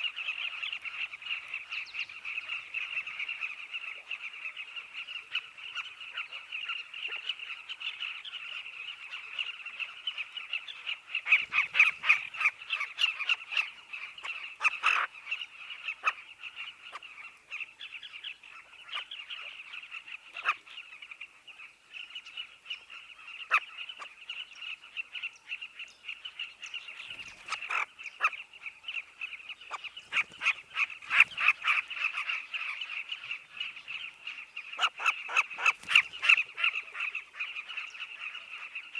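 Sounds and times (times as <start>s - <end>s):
bird colony chorus of chirps: 0.0s - 38.9s
close bird calls: 0.0s - 38.9s.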